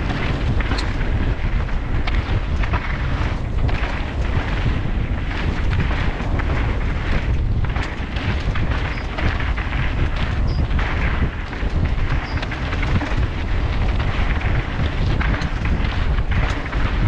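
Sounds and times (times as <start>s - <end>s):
bike rattling clicks and knocks: 0.0s - 17.0s
bike tyres rumbling on dirt: 0.0s - 17.0s
wind buffeting microphone: 0.0s - 17.0s.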